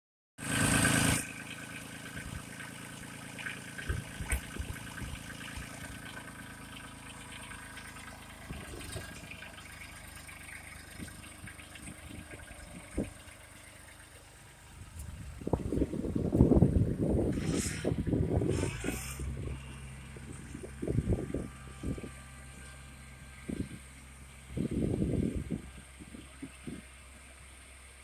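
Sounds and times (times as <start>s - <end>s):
tractor diesel engine running: 0.4s - 28.0s.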